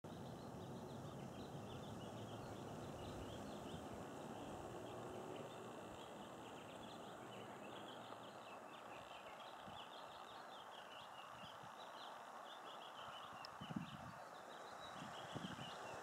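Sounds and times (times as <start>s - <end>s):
small birds chirping: 0.0s - 16.0s
low even hiss: 0.1s - 16.0s.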